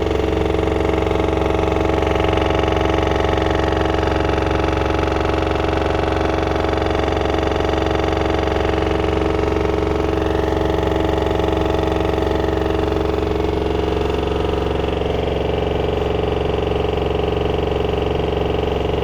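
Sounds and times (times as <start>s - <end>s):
washer-dryer spinning: 0.0s - 19.0s.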